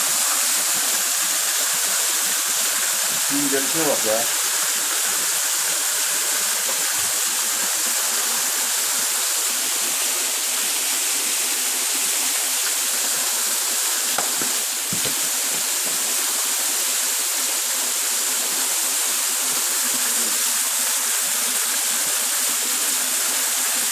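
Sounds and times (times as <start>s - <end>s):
waterfall pouring: 0.0s - 23.9s.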